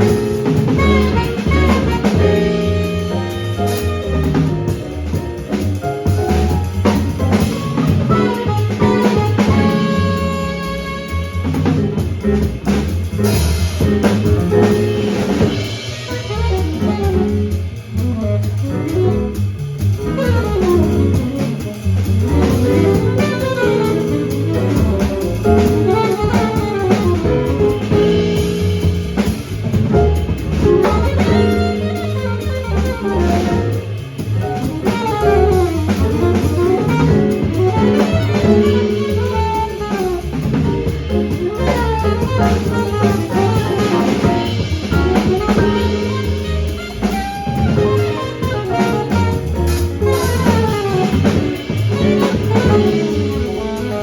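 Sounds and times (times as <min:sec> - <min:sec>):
saxophone melody: 0:00.0 - 0:05.0, 0:06.3 - 0:12.0, 0:16.1 - 0:17.6, 0:18.2 - 0:29.2, 0:30.2 - 0:54.0
bass: 0:00.0 - 0:54.0
drum kit: 0:00.0 - 0:54.0
piano: 0:00.0 - 0:54.0.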